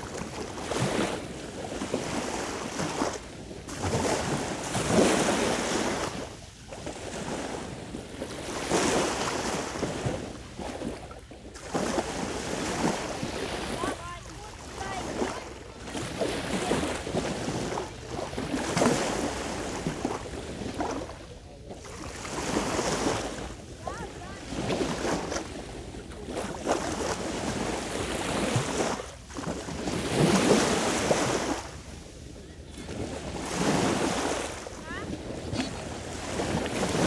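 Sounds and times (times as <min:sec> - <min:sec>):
small waves washing on shore: 0:00.0 - 0:37.0.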